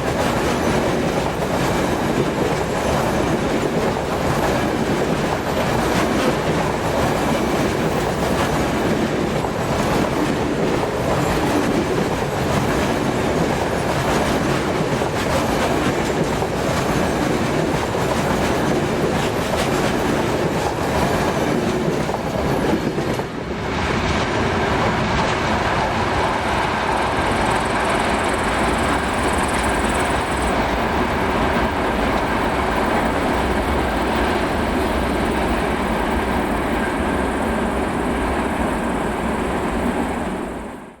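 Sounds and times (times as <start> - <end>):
train wheels clattering on track: 0.0 - 41.0.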